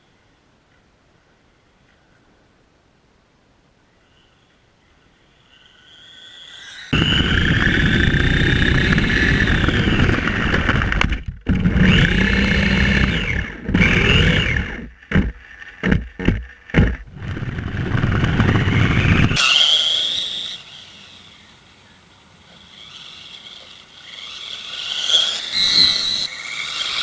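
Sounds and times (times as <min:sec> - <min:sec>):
rc car electric motor whining: 0:04.1 - 0:27.0.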